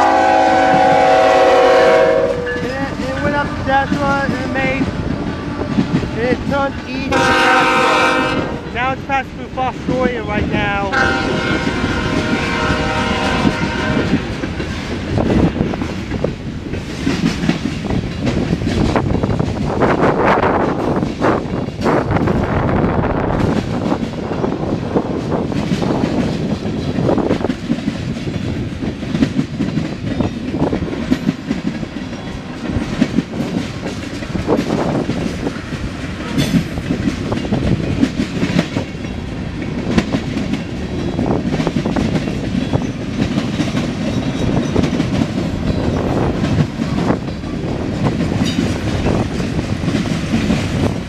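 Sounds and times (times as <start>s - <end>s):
steel wheels rumbling on rail: 0.0s - 51.0s
train cars clicking and clanking: 0.0s - 51.0s.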